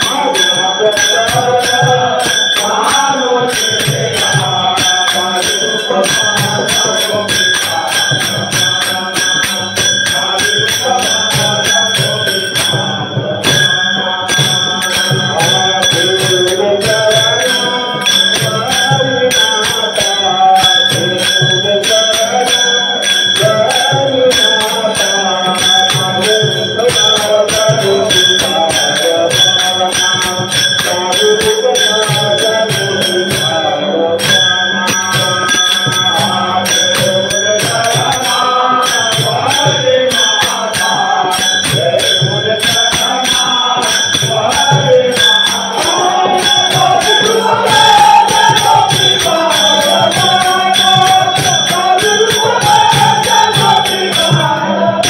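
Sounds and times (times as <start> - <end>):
fast percussion rhythm: 0.0 - 55.0.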